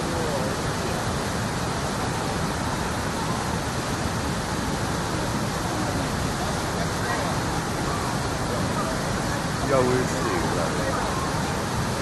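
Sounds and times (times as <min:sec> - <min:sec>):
whitewater rapids and waterfall roar: 0:00.0 - 0:12.0.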